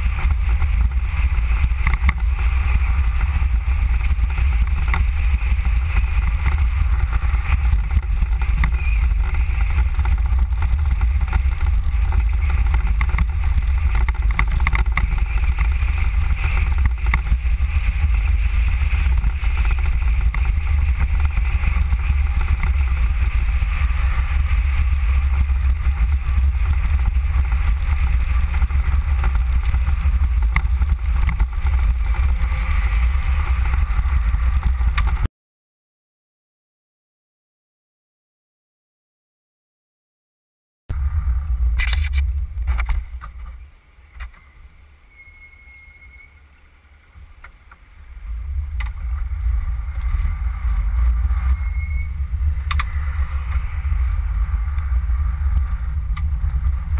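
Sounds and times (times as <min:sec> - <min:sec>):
road and wind rumble: 0:00.0 - 0:35.3, 0:40.9 - 0:56.9.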